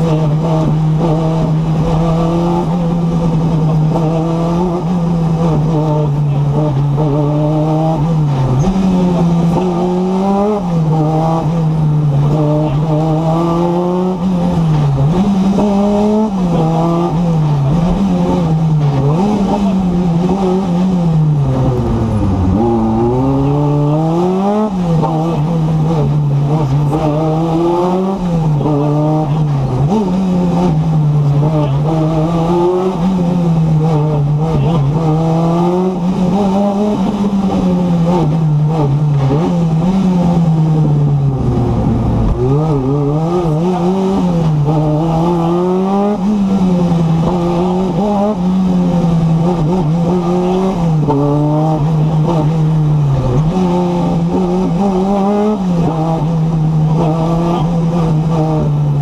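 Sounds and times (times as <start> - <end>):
car engine revving through gears: 0.0 - 59.0.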